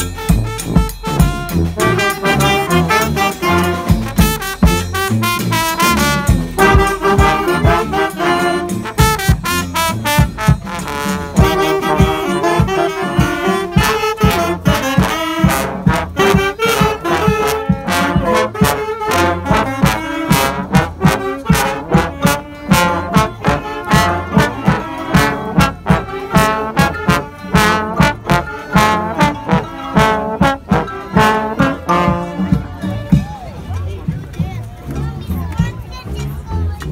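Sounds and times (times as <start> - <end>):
brass band playing: 0.0 - 33.3.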